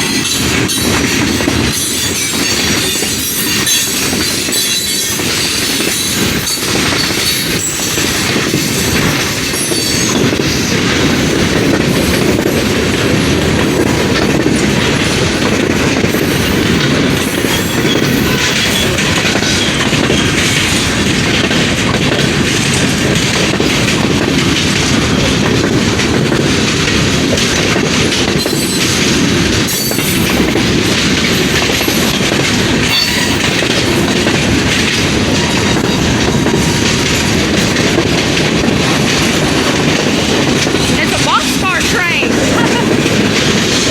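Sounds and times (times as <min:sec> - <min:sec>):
freight train cars rolling past: 0:00.0 - 0:43.9
wheels clacking over rail joints: 0:00.0 - 0:43.9.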